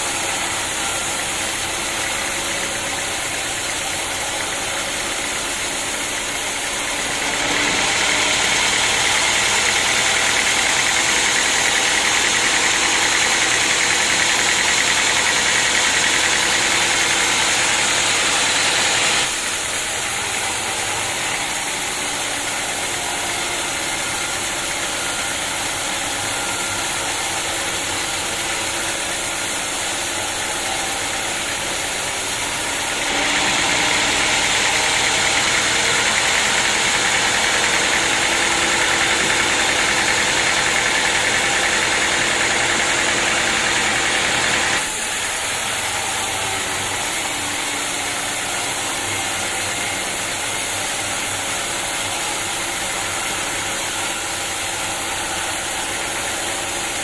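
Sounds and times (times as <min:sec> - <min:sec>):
saw cutting through log: 0:00.0 - 0:57.0
sawmill running: 0:00.0 - 0:57.0.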